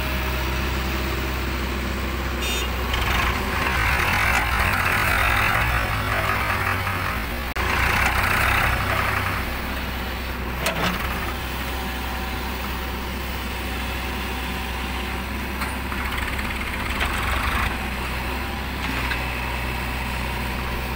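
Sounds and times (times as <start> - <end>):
diesel engine under load: 0.0 - 20.9.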